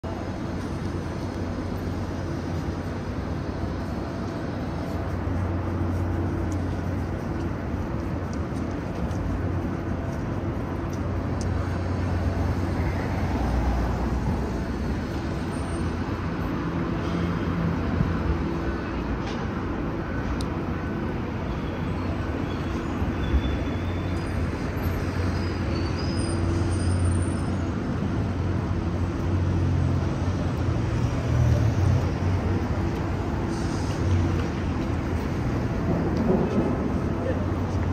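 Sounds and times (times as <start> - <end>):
passing cars and buses: 0.0 - 37.9.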